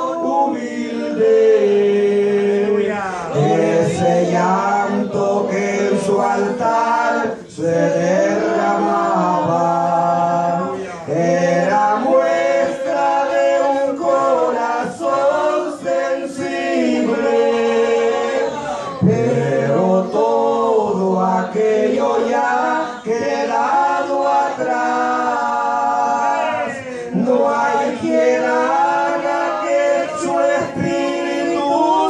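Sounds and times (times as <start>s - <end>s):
man and woman singing a hymn: 0.0s - 32.0s.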